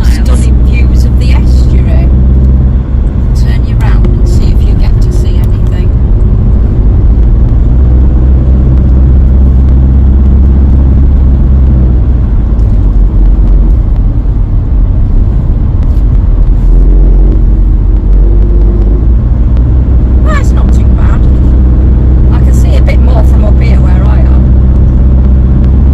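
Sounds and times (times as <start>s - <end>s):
road noise: 0.0s - 25.9s
vehicle engine drone: 0.0s - 25.9s.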